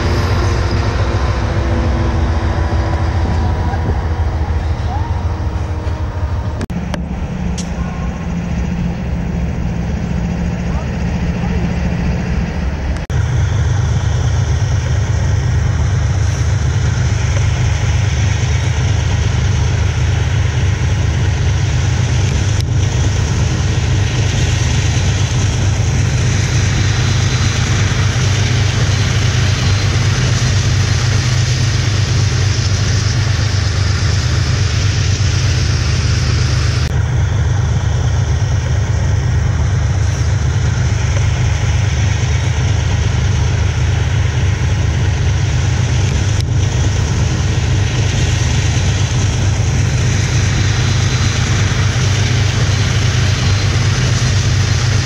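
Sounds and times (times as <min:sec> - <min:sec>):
diesel locomotive engine drone: 0:00.0 - 0:55.0
hiss of wheels on rails: 0:00.0 - 0:55.0.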